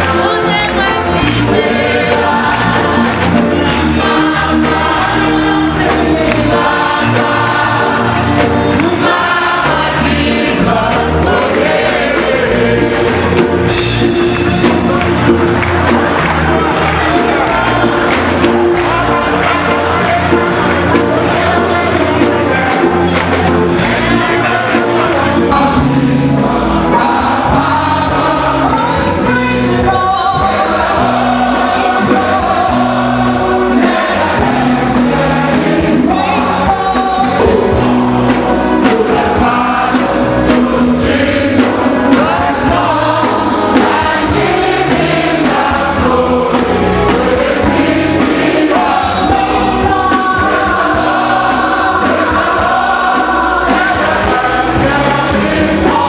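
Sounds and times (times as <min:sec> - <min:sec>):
choir singing gospel with band: 0:00.0 - 0:56.0
steady bass line: 0:00.0 - 0:56.0.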